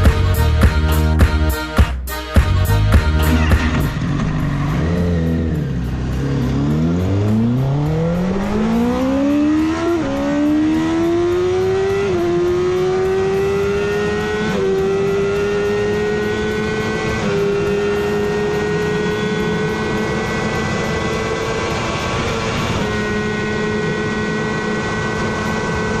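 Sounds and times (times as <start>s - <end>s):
motorcycle engine accelerating: 2.7s - 26.0s.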